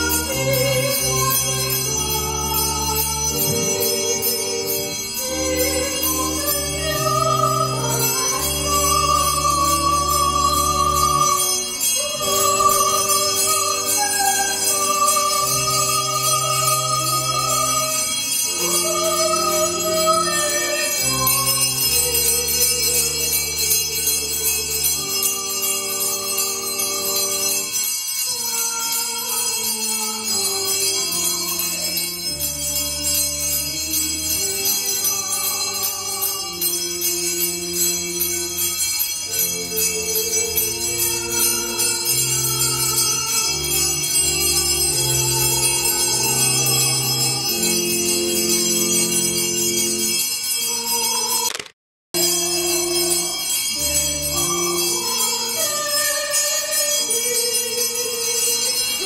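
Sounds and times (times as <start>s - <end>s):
slow church music: 0.0s - 59.0s.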